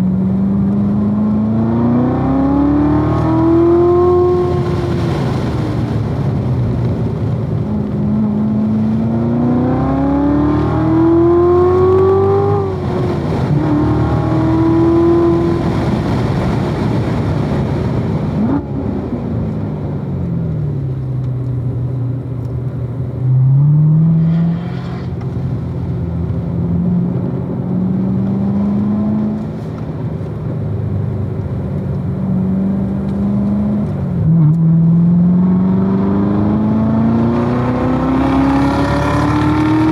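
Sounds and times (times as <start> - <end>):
sports car engine revving: 0.0 - 39.9.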